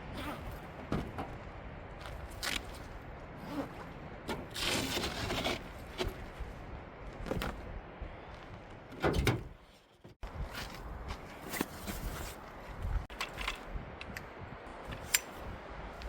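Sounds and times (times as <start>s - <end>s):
wind rumbling on microphone: 0.0s - 16.0s
camping gear clattering and rustling: 0.1s - 7.7s, 8.3s - 16.0s.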